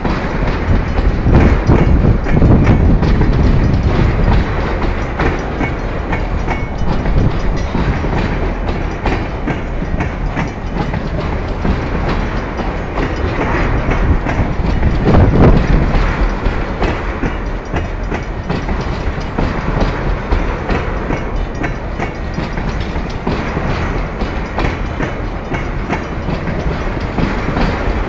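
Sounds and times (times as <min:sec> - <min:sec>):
freight train rumbling past: 0:00.0 - 0:28.0
steel wheels clacking over rails: 0:00.0 - 0:28.0.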